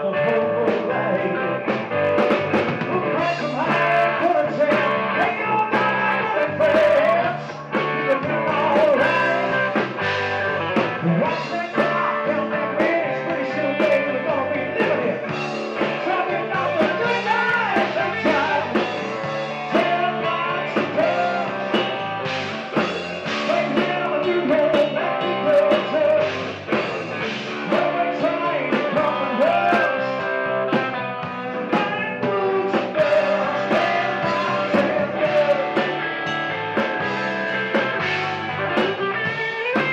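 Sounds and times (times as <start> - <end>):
man singing: 0.0 - 36.2, 38.0 - 39.9
bass guitar: 0.0 - 39.9
drum kit: 0.0 - 39.9
electric guitar: 0.0 - 39.9.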